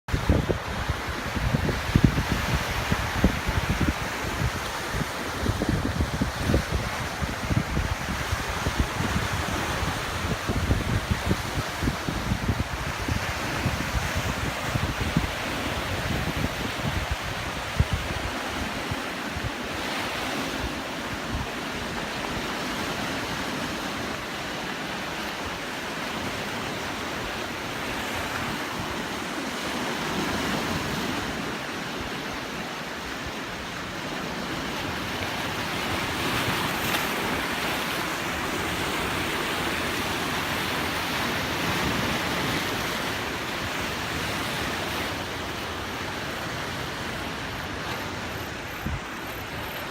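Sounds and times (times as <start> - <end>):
sea surf on rocky shore: 0.1 - 49.9
wind buffeting microphone: 0.1 - 49.9.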